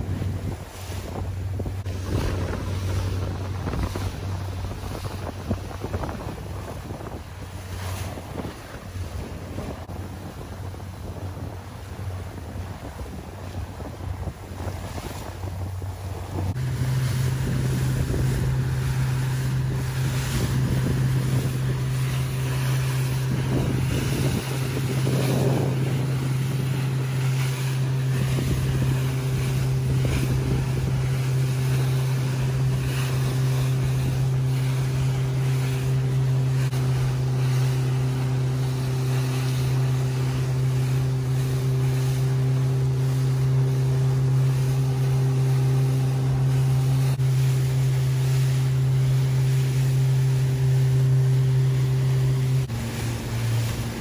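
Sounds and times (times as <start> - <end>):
motorboat engine drone: 0.0 - 54.0
water noise: 0.0 - 54.0
wind: 0.0 - 54.0.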